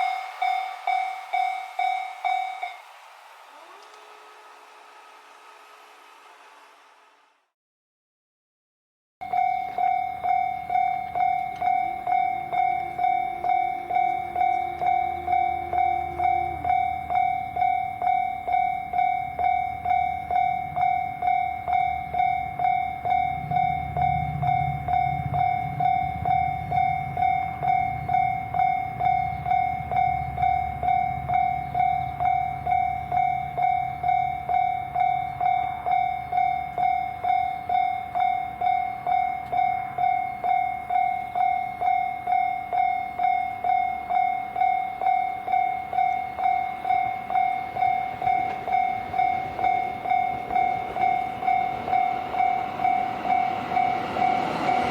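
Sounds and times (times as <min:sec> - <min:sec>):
level crossing warning bell: 0:00.0 - 0:04.5, 0:09.2 - 0:54.9
train rumbling past: 0:00.0 - 0:07.5, 0:09.2 - 0:54.9.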